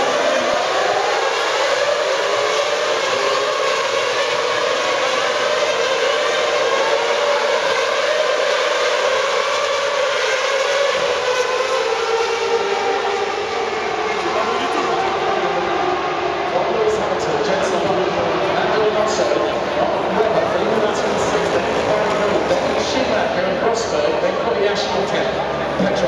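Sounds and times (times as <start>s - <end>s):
racing engines screaming: 0.0s - 26.0s.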